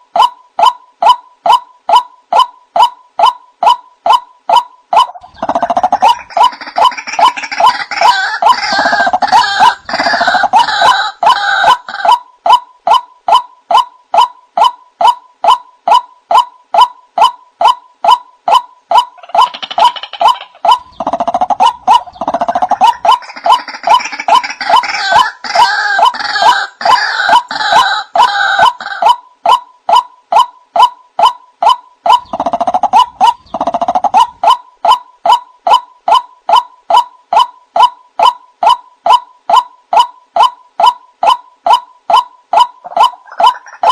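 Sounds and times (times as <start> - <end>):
harsh chattering bird calls: 0.2 - 43.9.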